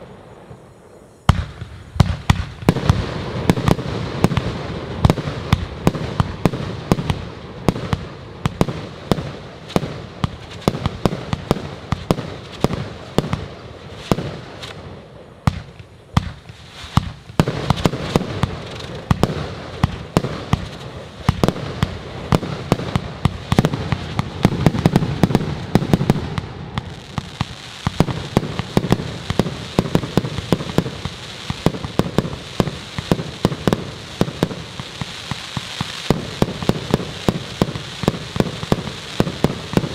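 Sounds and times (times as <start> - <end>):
dense firework crackling: 0.0 - 39.9
firework launch thumps and bursts: 1.2 - 14.8, 15.4 - 39.9.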